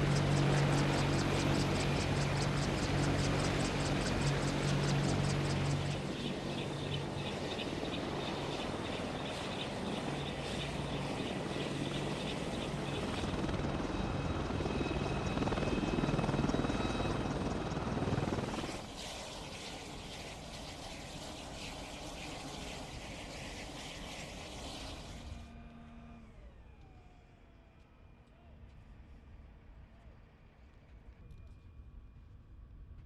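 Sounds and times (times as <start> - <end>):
turbine noise: 0.0 - 27.2
helicopter rotor chopping: 0.0 - 27.4.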